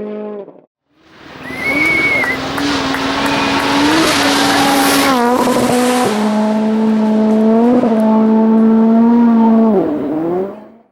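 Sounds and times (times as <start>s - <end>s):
rally car engine revving: 0.0s - 10.9s.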